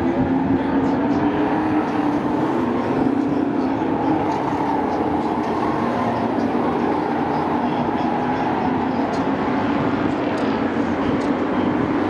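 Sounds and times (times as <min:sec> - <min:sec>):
racing truck engines droning: 0:00.0 - 0:12.0.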